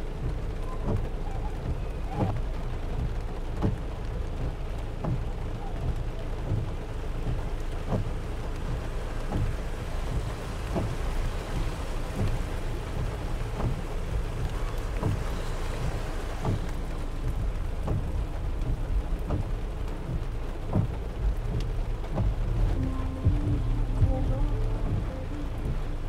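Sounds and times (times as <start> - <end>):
heavy rain: 0.0 - 26.0
low rumble: 2.7 - 26.0.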